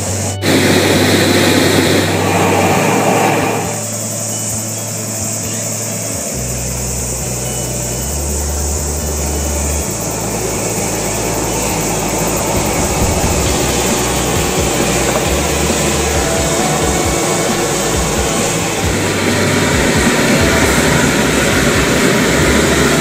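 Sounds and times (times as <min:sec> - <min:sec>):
gas burner flame rushing: 0:00.0 - 0:23.0.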